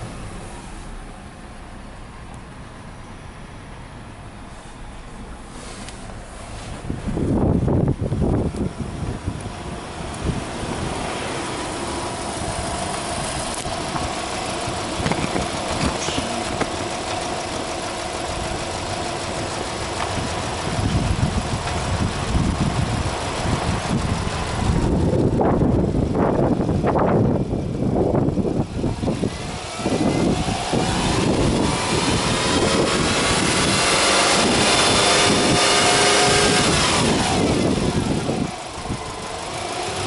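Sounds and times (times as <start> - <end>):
car engine idling: 0.0 - 40.0
engine throttle blips: 4.6 - 40.0.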